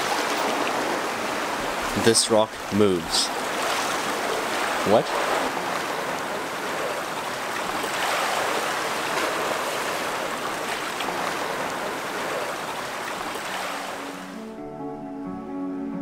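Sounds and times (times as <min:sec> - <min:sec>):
waves lapping against boulders: 0:00.0 - 0:14.4.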